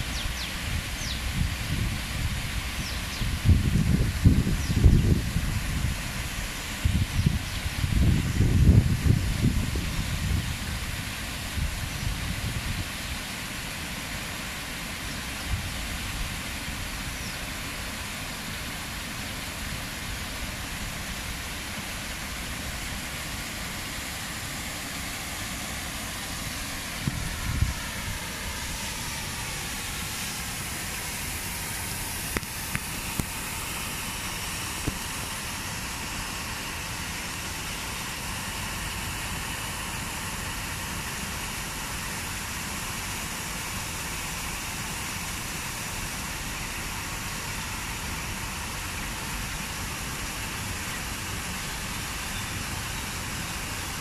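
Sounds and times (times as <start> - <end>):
rain and waterfall rushing: 0.0 - 54.0.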